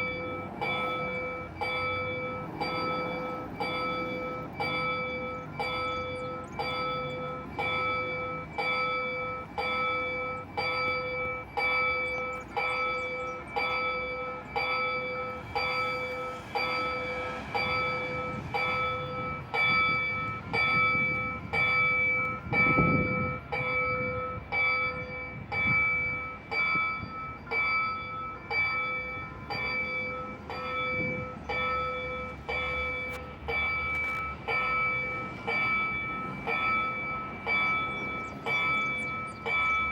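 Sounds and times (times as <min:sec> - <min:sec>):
level crossing bell ringing: 0:00.0 - 0:39.9.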